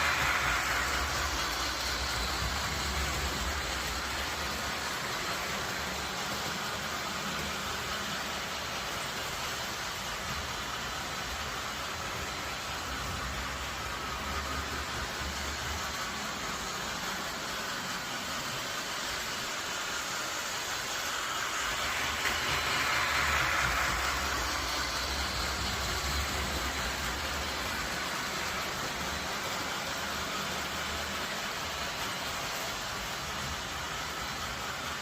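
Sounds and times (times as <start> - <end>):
train rumbling along track: 0.0 - 35.0.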